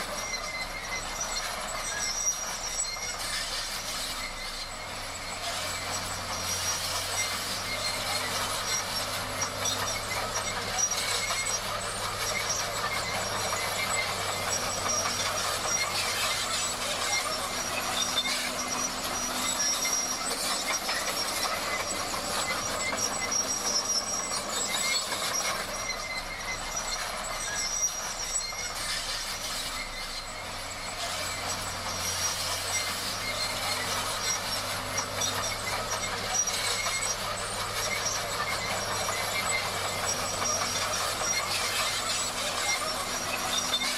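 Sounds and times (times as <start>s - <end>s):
engine hum: 0.0s - 43.9s
steel tracks clanking and squealing: 0.0s - 43.9s.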